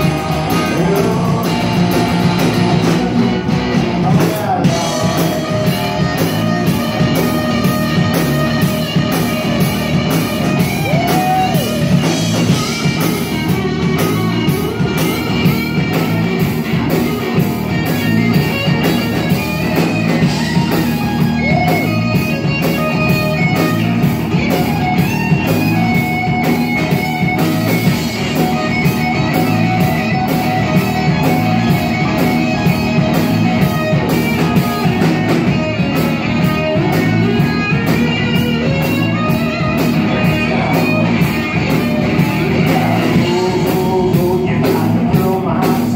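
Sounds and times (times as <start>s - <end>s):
electric guitar: 0.0s - 45.9s
live rock band playing: 0.0s - 45.9s.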